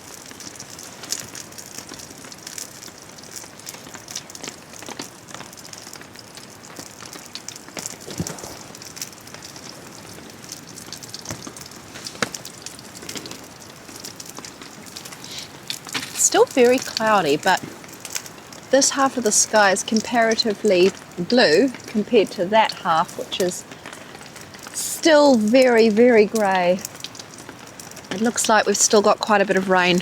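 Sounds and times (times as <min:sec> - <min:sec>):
campfire crackling and popping: 0:00.0 - 0:30.0
rain pattering: 0:00.0 - 0:30.0.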